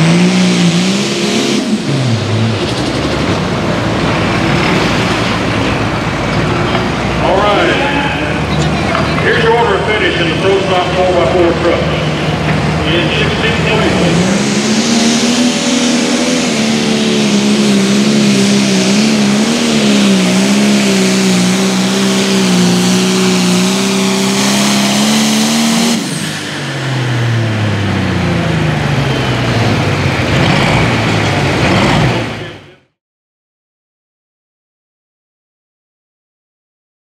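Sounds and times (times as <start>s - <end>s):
diesel engine at full power: 0.0s - 33.0s.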